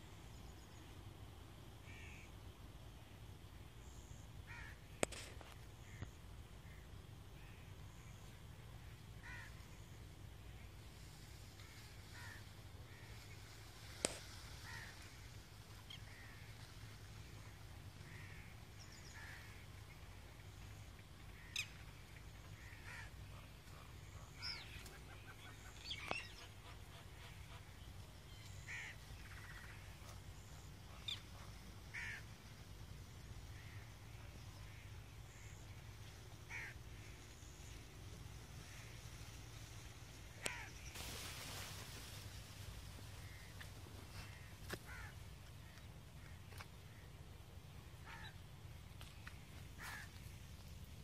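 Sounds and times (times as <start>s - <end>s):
low steady hum: 0.0s - 51.0s
birds calling: 3.8s - 51.0s.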